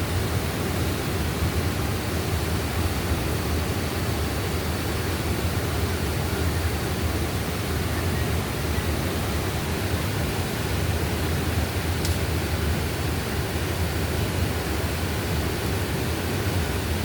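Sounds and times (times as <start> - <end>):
fast-flowing stream rushing: 0.0 - 17.0.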